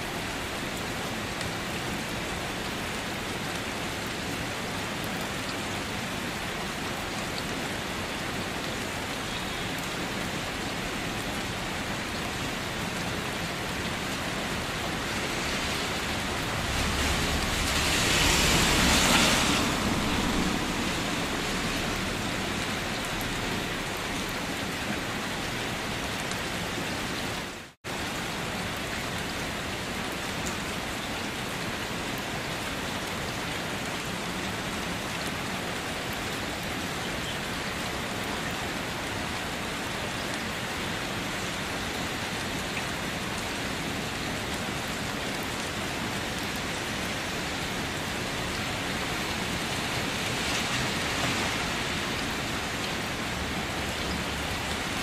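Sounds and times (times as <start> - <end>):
rain falling on wet surface: 0.0 - 55.0.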